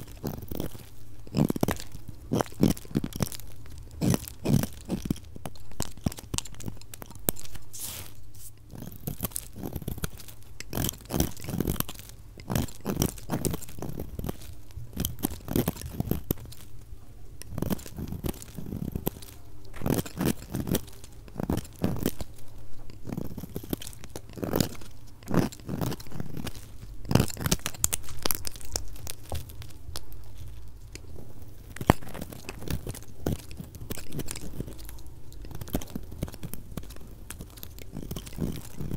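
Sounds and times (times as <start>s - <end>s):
knife cutting through soap: 0.0s - 16.6s, 17.4s - 38.9s.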